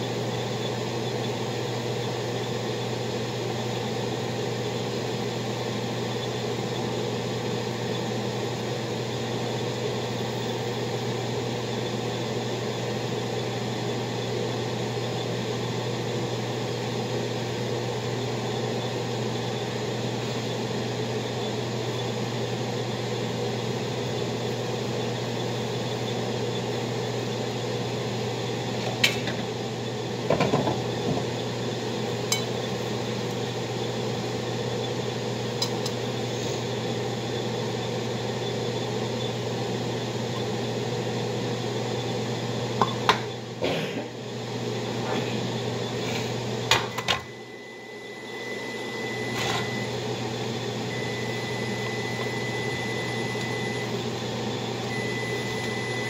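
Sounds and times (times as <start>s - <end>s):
kitchen hum and hiss: 0.0s - 56.0s.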